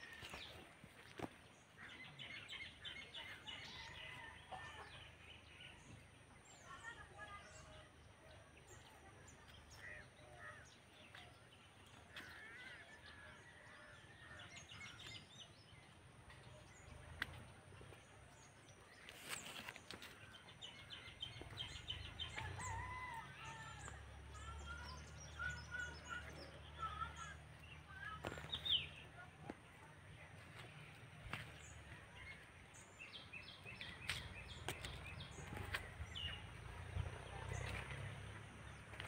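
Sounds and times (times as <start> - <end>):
faint birdsong: 0.0 - 39.0.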